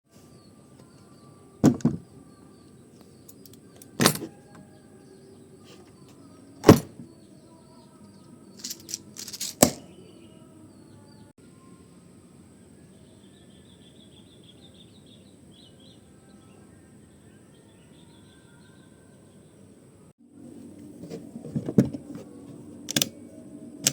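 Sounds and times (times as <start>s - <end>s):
faint birds chirping: 0.1s - 23.9s.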